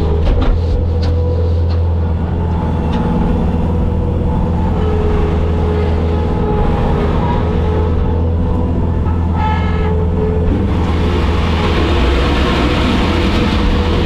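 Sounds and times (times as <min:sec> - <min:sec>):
diesel engine rumbling: 0:00.0 - 0:14.0
high engine whine: 0:00.0 - 0:14.0.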